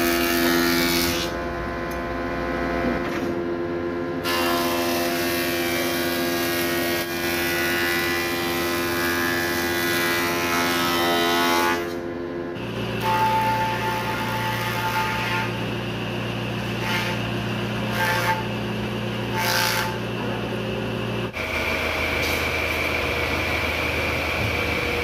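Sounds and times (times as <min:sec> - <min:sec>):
planer cutting board: 0:00.0 - 0:01.4, 0:04.2 - 0:25.0.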